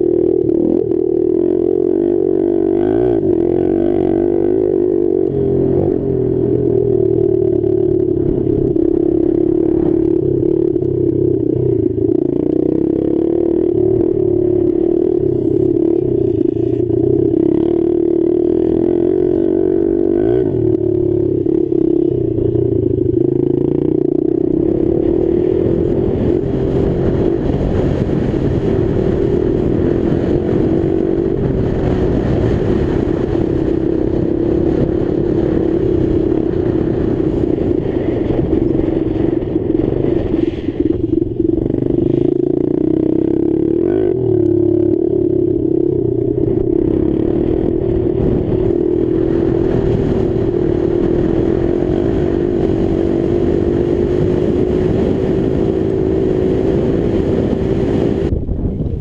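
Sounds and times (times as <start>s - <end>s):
motorbike engine revving high: 0.0s - 58.3s.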